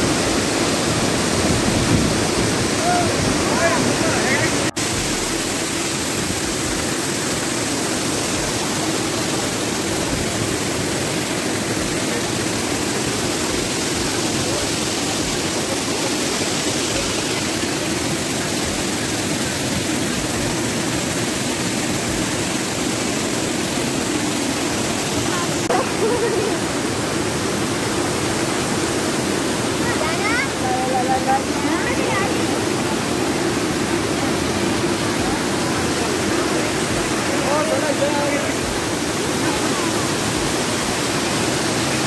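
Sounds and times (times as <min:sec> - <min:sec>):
waterfall and stream rushing: 0:00.0 - 0:42.0.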